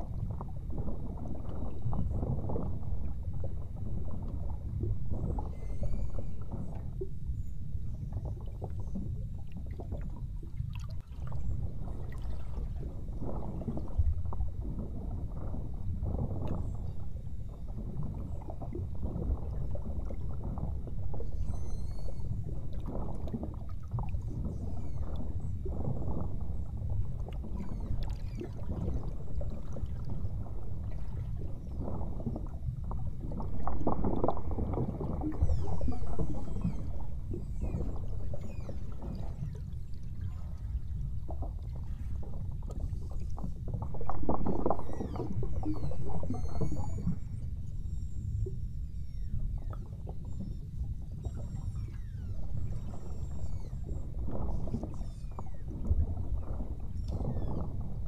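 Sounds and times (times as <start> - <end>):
water splashing against hull: 0.0 - 58.0.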